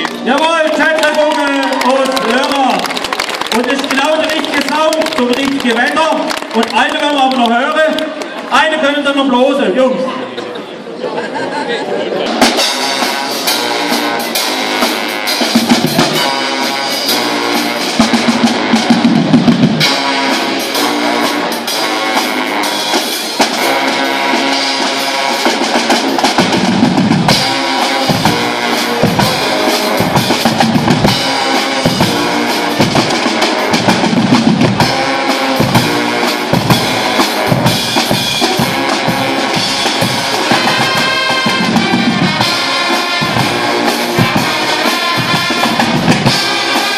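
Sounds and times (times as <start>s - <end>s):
drum line beat: 0.0s - 7.7s, 12.3s - 46.9s
brass band playing: 0.0s - 10.4s, 11.8s - 46.9s.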